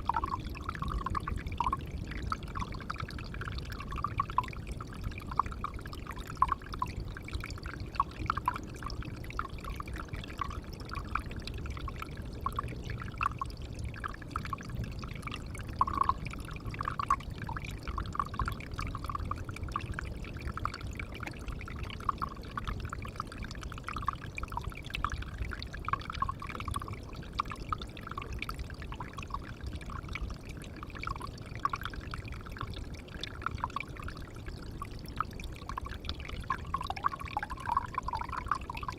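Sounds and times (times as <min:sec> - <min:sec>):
pond water trickling and splashing: 0:00.0 - 0:38.9.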